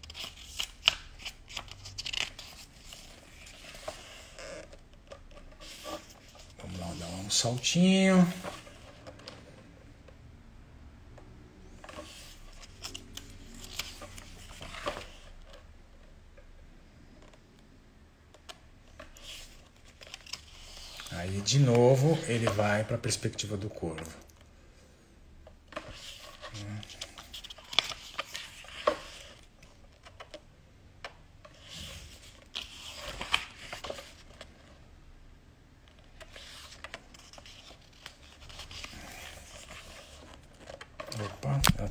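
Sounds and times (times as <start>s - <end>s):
book pages turning: 0.0s - 10.2s, 11.7s - 16.1s, 18.3s - 24.3s, 25.6s - 34.8s, 35.8s - 41.9s.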